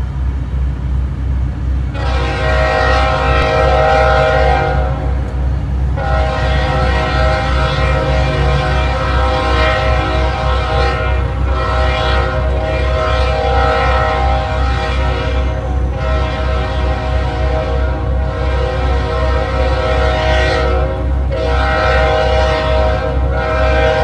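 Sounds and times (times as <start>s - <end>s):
low steady throbbing: 0.0s - 24.0s
locomotive air horn blasts: 1.9s - 24.0s.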